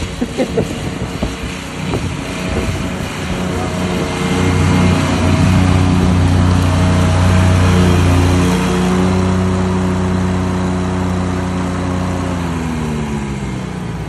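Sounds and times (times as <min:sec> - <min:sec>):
mower engine running under load: 0:00.0 - 0:14.0.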